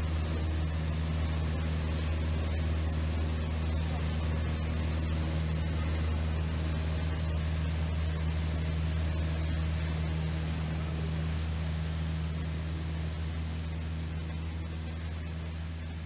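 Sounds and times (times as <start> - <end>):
small plane engine droning: 0.0 - 16.0.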